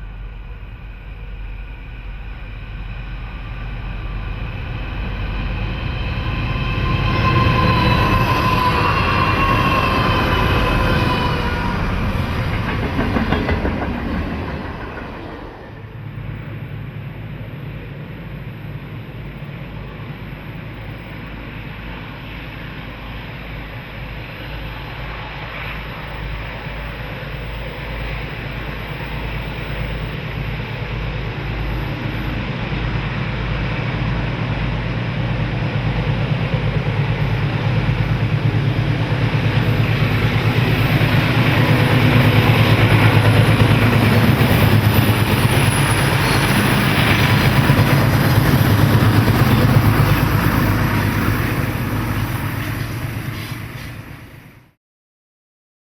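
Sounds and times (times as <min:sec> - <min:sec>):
diesel locomotive engine rumble: 0:00.0 - 0:54.8
passing train noise: 0:00.0 - 0:54.8.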